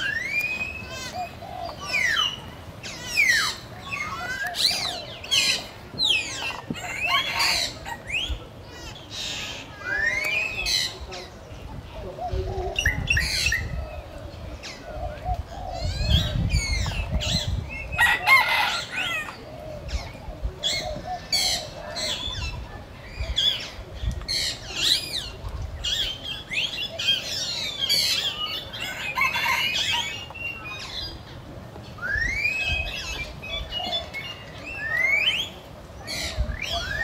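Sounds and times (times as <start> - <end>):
birds chirping and trilling: 0.0 - 37.0.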